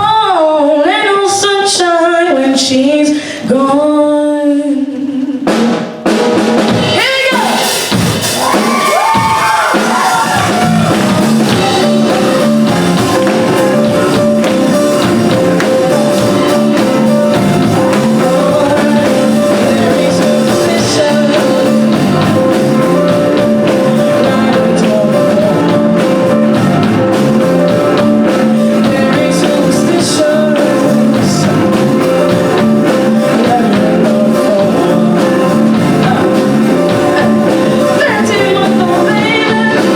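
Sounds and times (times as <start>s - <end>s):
live band playing: 5.4s - 39.9s.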